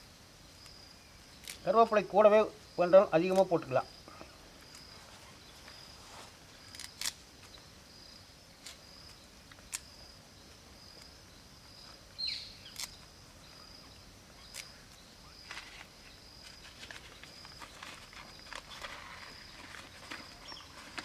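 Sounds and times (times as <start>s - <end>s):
insect chirring: 0.0s - 21.0s.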